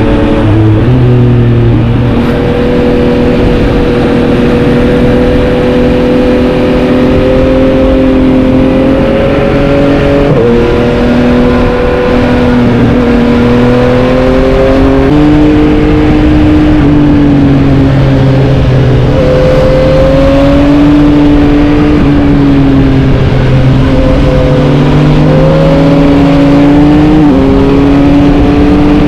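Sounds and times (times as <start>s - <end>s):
heavy wind: 0.0s - 29.0s
motorcycle engine revving: 0.0s - 29.0s.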